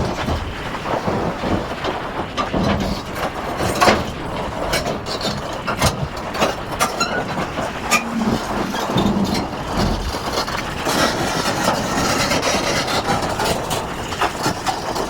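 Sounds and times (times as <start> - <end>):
excavator engine running: 0.0 - 15.0
excavator knocks and clanks: 0.0 - 15.0.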